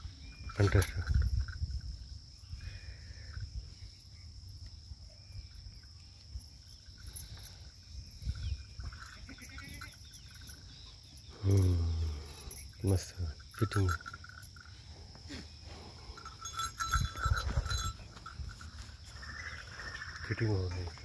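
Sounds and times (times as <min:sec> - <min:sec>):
insects droning: 0:00.0 - 0:21.0
small bells jingling: 0:00.0 - 0:21.0.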